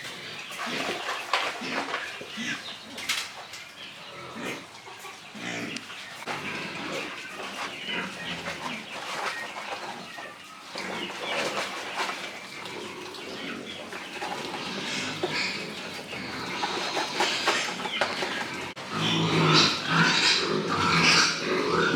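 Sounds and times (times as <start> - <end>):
farm animals and birds calling: 0.0 - 21.9.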